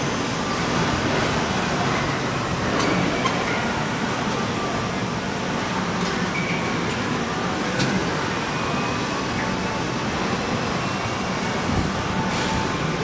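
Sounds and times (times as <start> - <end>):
machinery and ventilation noise: 0.0 - 13.0.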